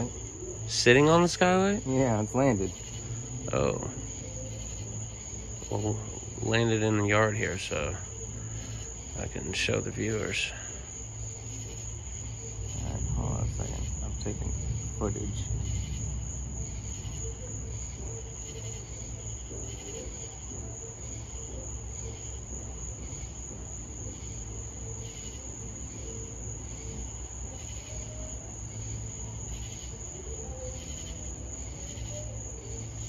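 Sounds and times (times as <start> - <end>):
low steady hum: 0.0 - 30.3
crickets trilling: 0.0 - 33.0.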